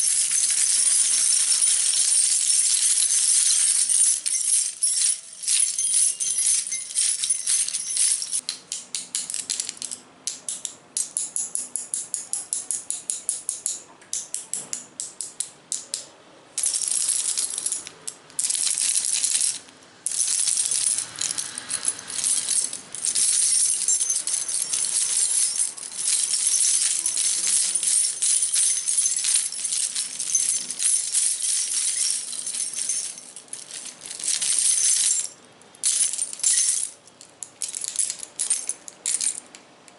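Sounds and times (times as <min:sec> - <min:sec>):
small objects tapping and rattling: 0:00.0 - 0:39.9.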